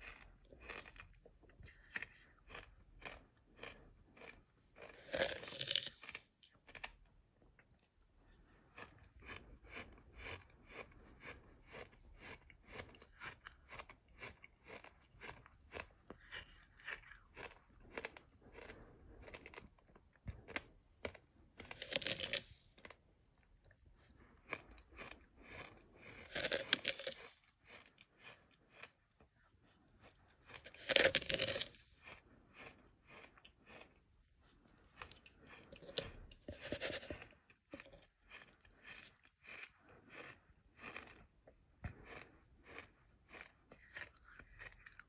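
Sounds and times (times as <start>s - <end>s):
chewing gritty sand: 0.0s - 45.0s.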